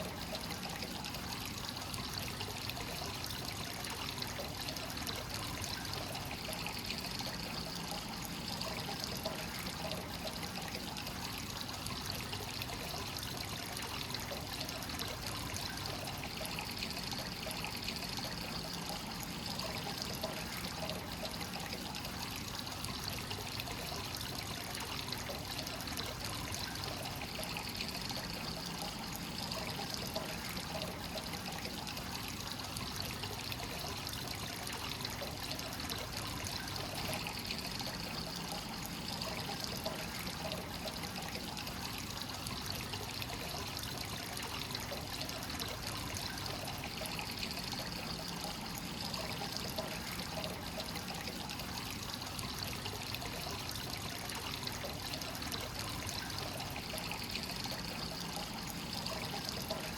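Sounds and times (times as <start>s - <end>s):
water pouring into a bath: 0.0s - 59.9s.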